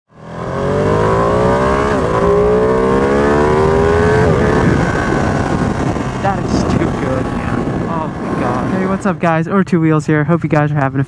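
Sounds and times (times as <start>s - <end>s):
motorcycle engine accelerating: 0.1s - 9.4s.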